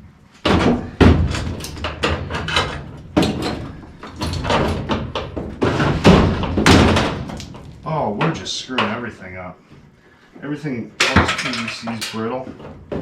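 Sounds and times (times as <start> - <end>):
metal knocks and bangs: 0.4 - 9.0, 11.0 - 13.0.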